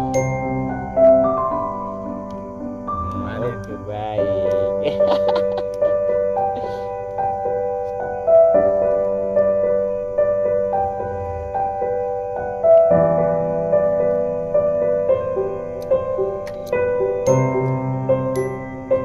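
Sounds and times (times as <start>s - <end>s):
slow keyboard melody: 0.0s - 19.0s.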